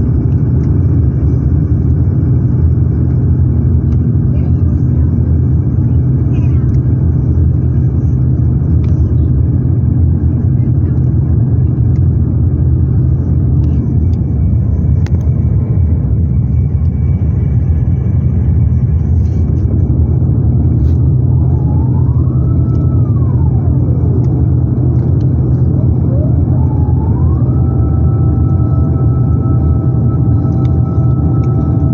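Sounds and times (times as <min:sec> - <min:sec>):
aircraft engine rumble in cabin: 0:00.0 - 0:31.9.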